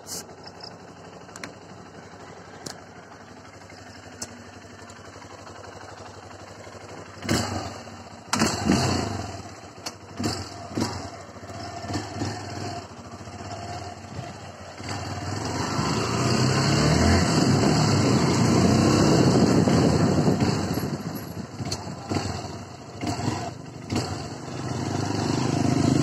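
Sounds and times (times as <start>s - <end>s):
motorcycle engine idling: 0.0s - 16.5s, 17.4s - 26.0s
motorcycle riding off: 1.3s - 26.0s.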